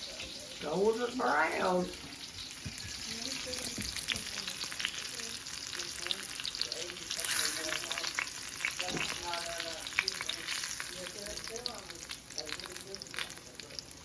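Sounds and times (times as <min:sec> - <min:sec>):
chicken sizzling in hot grease: 0:00.0 - 0:14.0.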